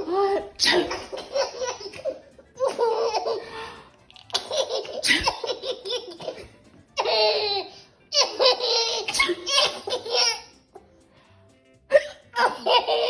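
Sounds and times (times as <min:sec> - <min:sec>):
baby laughing hard: 0:00.0 - 0:03.6, 0:04.2 - 0:10.6, 0:12.3 - 0:13.0.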